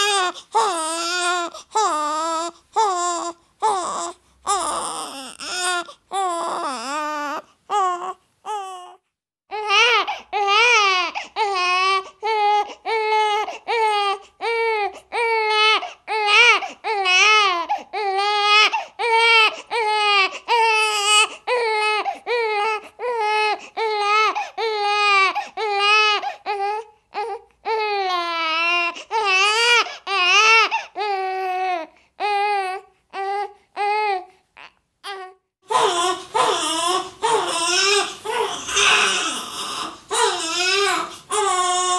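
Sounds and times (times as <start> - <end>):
baby crying: 0.0 - 41.9.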